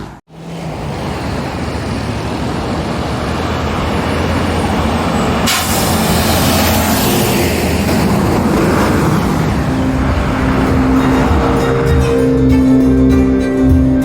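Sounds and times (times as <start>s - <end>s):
heavy lorries passing: 0.0s - 14.0s.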